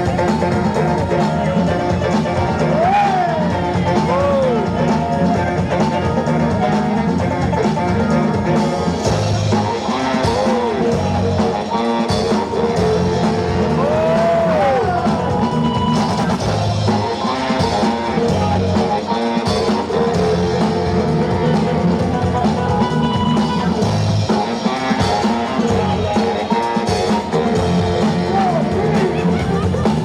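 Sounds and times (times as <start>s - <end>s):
rock music with drums and guitar: 0.0s - 30.0s.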